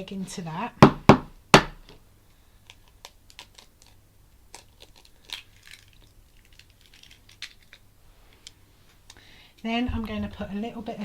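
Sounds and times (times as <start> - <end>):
eggshell clicking and crinkling: 1.6 - 11.0.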